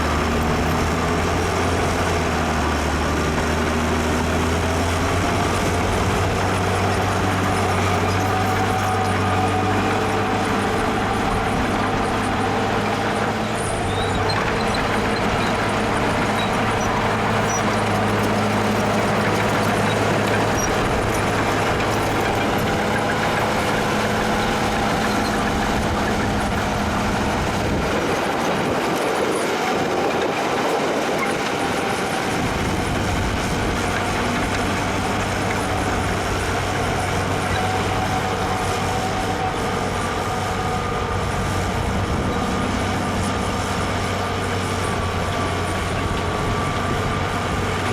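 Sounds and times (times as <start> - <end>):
diesel machinery engine rumble: 0.0 - 47.9.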